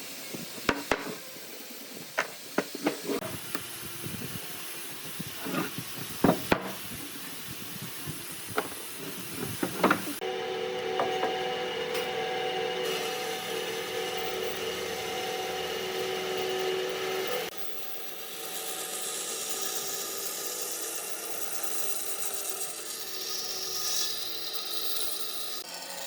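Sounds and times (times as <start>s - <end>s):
wood scraping on lathe: 2.6s - 25.6s
lathe motor hum: 3.0s - 26.0s.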